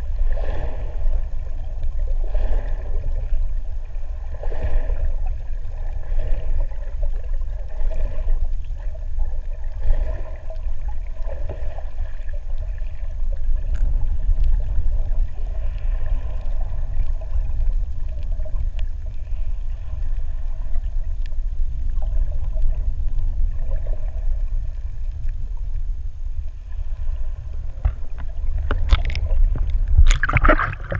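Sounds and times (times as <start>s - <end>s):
underwater low rumble: 0.0s - 30.9s
underwater swishing and gurgling: 0.0s - 30.9s.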